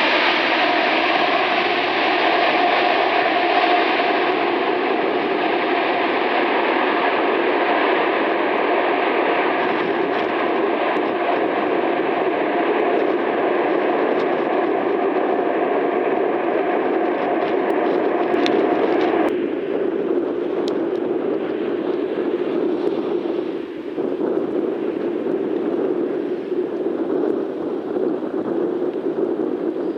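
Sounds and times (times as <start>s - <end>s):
jet engines roaring with whine: 0.0s - 29.9s.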